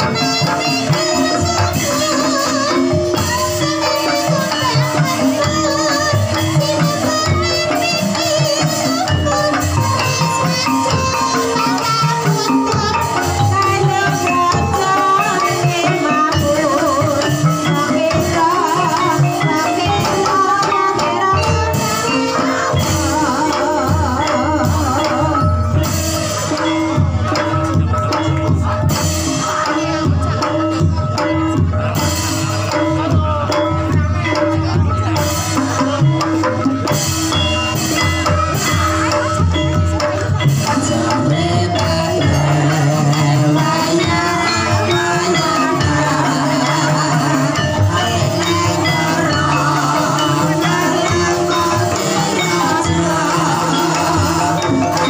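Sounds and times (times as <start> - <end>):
wavering melody line: 0.0 - 32.0, 32.6 - 55.0
hand drums steady beat: 0.0 - 55.0.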